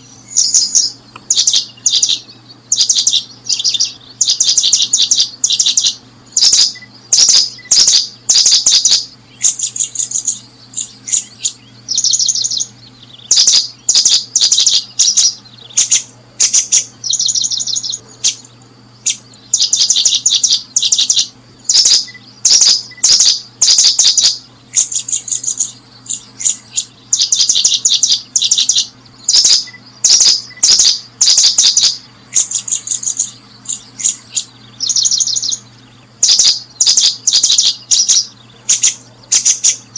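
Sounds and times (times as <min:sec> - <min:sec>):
faint low hum: 0:00.0 - 0:39.9
songbirds chirping: 0:00.0 - 0:39.9.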